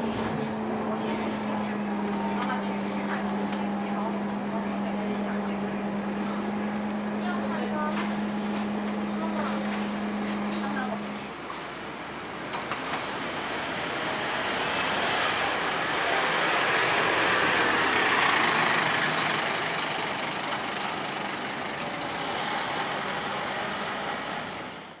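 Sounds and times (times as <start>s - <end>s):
bus driving past: 0.0s - 25.0s.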